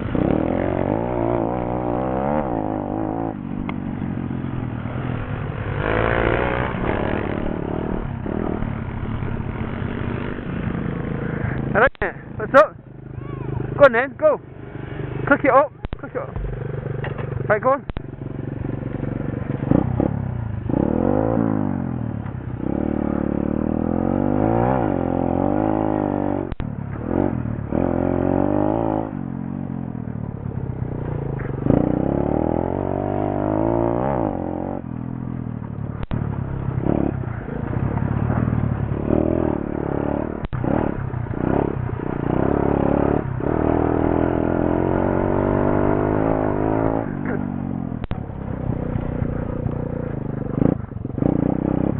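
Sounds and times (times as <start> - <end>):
pit bike engine revving: 0.0 - 51.9.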